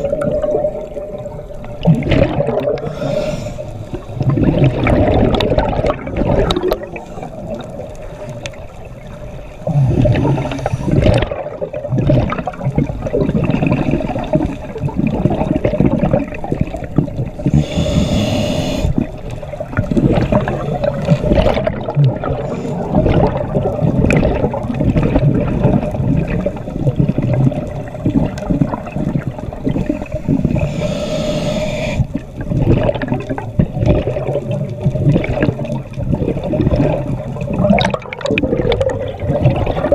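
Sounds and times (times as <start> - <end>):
exhaled bubbles rushing: 0.0 - 39.9
muffled underwater churning and bubbles: 0.0 - 39.9.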